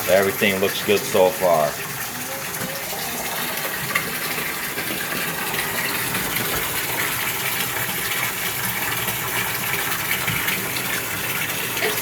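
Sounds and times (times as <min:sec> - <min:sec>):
water gushing into bathtub: 0:00.0 - 0:12.0.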